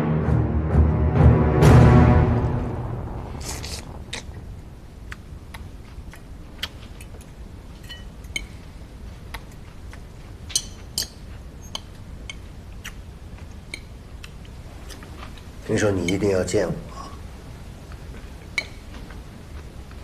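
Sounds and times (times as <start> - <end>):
low steady hum: 0.7 - 20.0.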